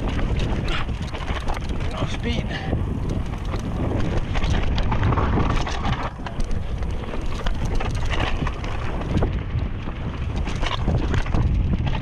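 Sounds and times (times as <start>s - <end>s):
bike rattles and knocks: 0.0s - 12.0s
bike tyre rumble on dirt: 0.0s - 12.0s
wind buffeting microphone: 0.0s - 12.0s.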